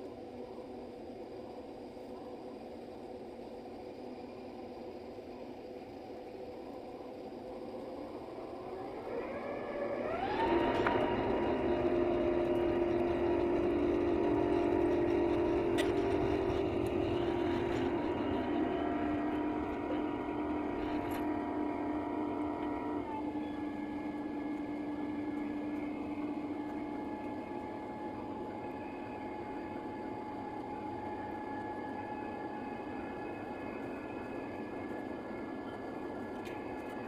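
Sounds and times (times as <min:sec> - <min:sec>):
jet engines at takeoff thrust: 0:00.0 - 0:37.0.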